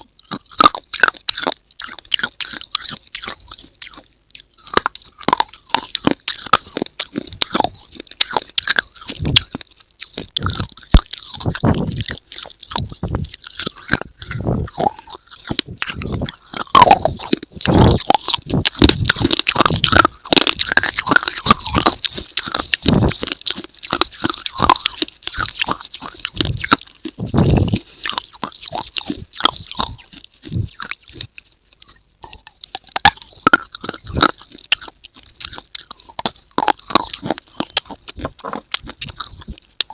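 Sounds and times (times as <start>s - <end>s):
crunching and clicking: 0.0s - 39.9s.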